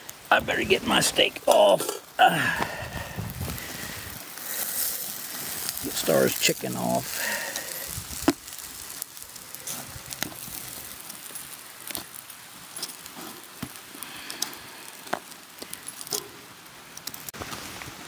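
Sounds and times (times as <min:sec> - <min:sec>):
fire crackling: 0:00.0 - 0:18.0
fire hissing: 0:00.0 - 0:18.0
light rain: 0:00.0 - 0:18.0.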